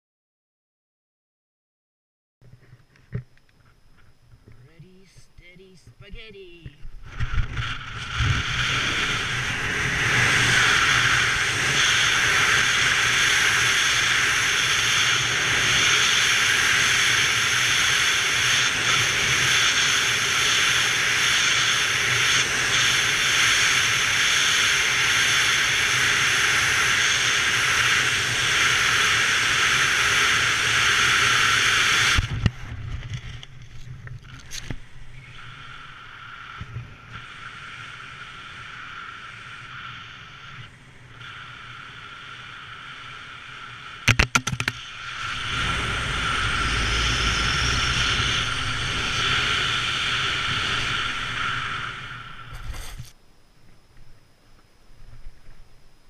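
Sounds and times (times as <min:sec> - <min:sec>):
wind rushing over microphone: 0:06.0 - 0:53.1.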